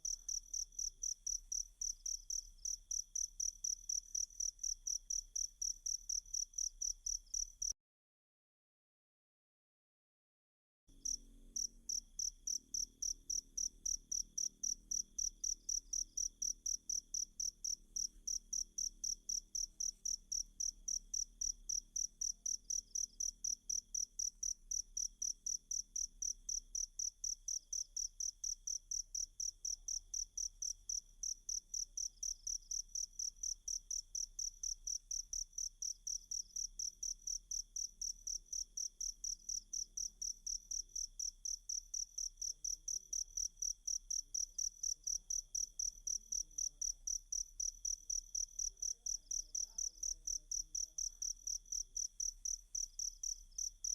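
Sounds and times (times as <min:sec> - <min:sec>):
cricket chirping: 0:00.0 - 0:07.8, 0:10.9 - 0:53.9.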